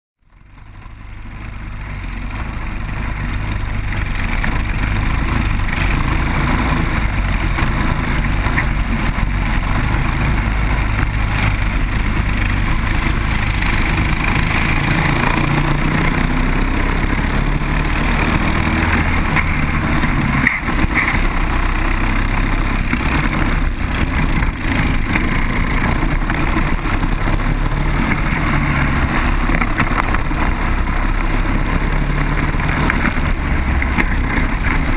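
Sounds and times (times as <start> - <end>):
kart engines racing: 0.3 - 34.9
steady rushing noise: 0.4 - 34.9.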